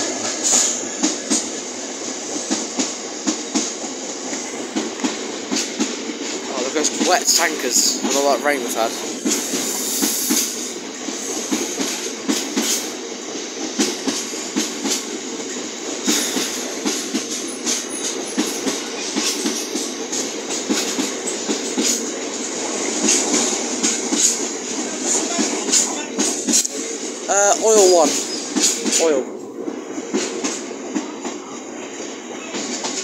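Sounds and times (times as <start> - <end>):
wheels clicking over rail joints: 0.0 - 29.2
train wheels rumbling: 0.0 - 33.0.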